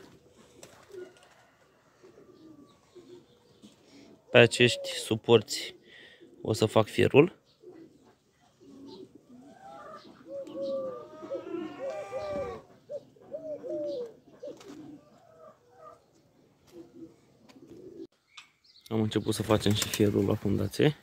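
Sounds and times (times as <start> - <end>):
birds cooing: 0.0 - 20.4.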